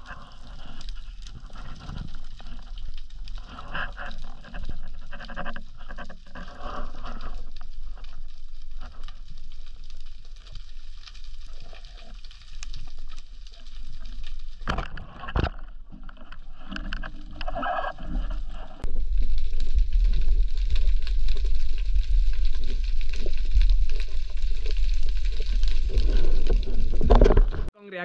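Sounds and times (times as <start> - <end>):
underwater water rush: 0.0 - 27.7.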